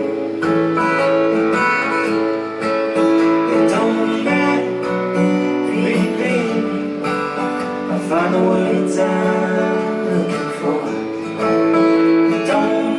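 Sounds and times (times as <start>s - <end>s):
acoustic guitar strumming: 0.0s - 12.9s.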